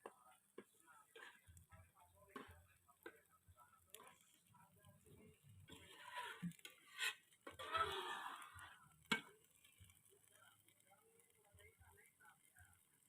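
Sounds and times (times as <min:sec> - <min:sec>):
utensil scraping in a pan: 0:00.0 - 0:13.0.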